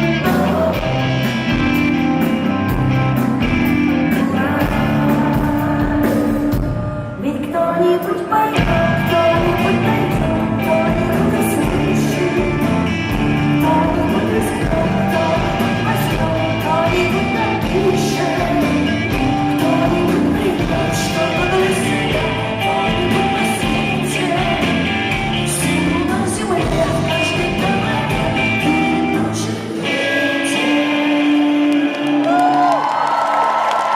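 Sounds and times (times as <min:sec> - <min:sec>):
live rock band with singer: 0:00.0 - 0:33.9.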